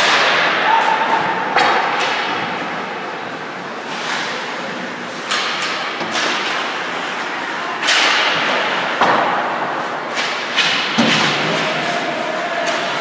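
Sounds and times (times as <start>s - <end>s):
hockey sticks hitting puck: 0.0s - 2.8s, 3.9s - 13.0s.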